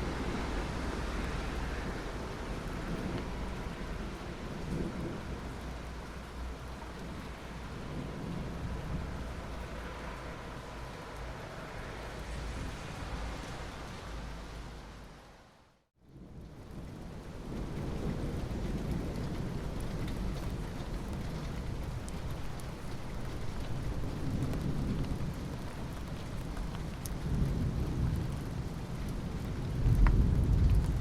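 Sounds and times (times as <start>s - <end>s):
low rolls of thunder: 0.0s - 14.2s, 16.1s - 31.0s
steady rain: 0.0s - 31.0s.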